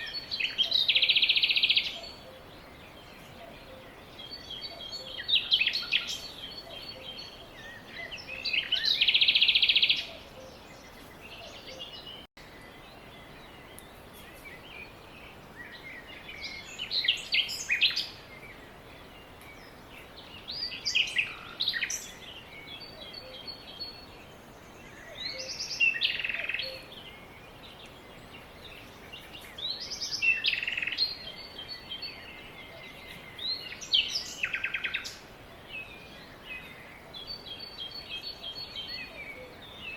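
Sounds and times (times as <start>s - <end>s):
songbird chirping: 0.0s - 39.9s
steady background hiss: 0.0s - 39.9s.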